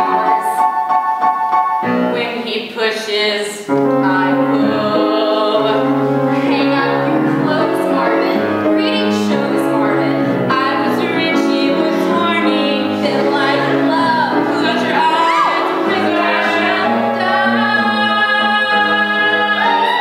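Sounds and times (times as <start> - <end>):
piano accompaniment: 0.0 - 20.0
women singing a duet: 2.2 - 20.0.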